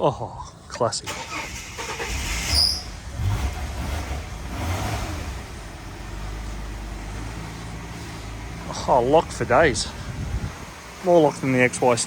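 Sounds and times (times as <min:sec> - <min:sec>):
car engine idling: 0:01.1 - 0:12.0.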